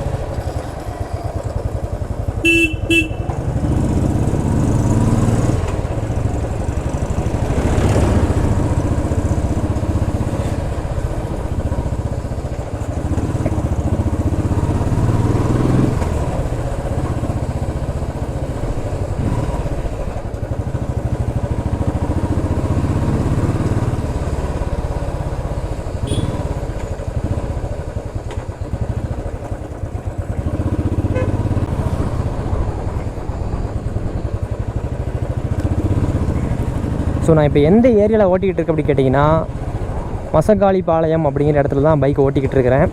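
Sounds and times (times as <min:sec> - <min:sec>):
motorcycle engine and exhaust: 0:00.0 - 0:42.9.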